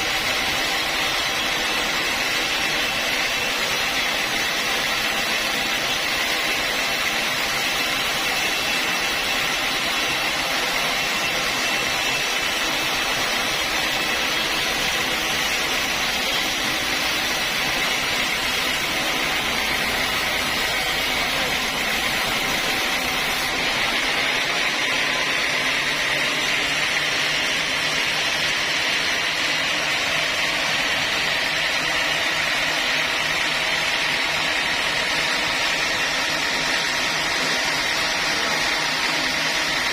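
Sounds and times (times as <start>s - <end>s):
sawmill saw cutting logs: 0.0s - 39.9s.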